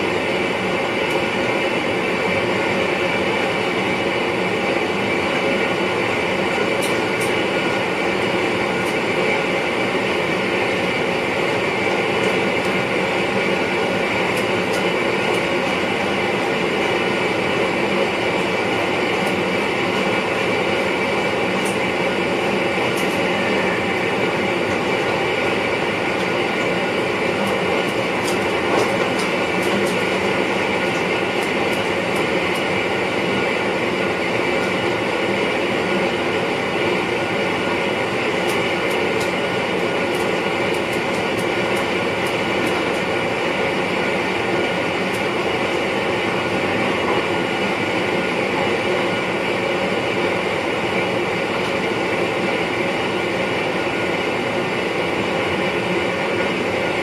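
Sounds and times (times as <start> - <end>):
electric train whine: 0.0 - 57.0
wheel and rail noise: 0.0 - 57.0.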